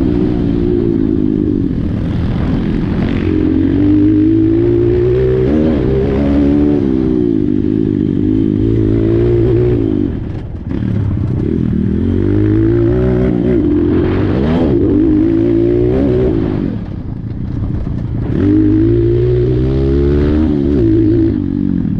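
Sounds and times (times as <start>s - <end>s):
motorbike engine revving: 0.0s - 21.9s.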